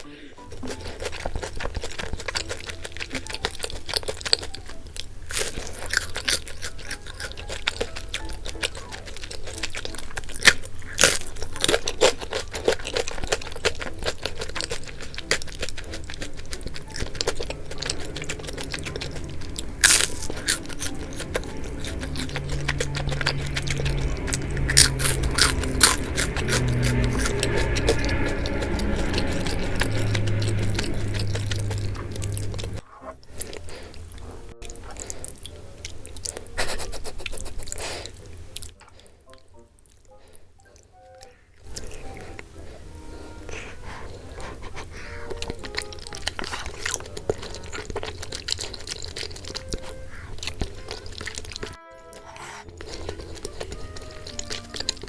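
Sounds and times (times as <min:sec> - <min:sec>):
crisp pastry bites and chewing: 0:00.0 - 0:55.0.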